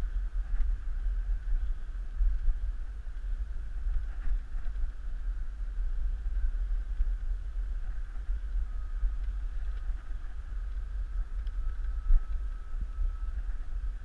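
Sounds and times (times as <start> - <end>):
faint thin whine: 0.0 - 14.0
wind buffeting microphone: 0.0 - 14.0.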